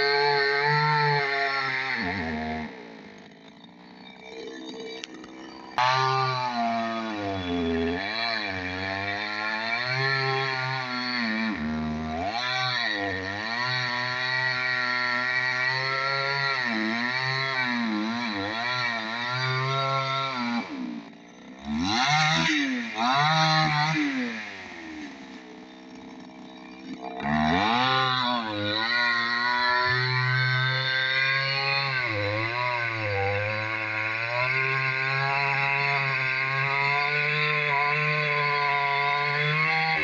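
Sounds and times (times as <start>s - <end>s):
chainsaw cutting wood: 0.0s - 40.0s
chainsaw revving: 0.0s - 40.0s.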